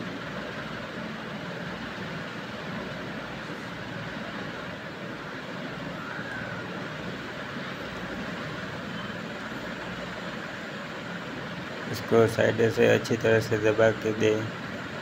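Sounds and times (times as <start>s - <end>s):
steady hiss and rumble: 0.0s - 15.0s.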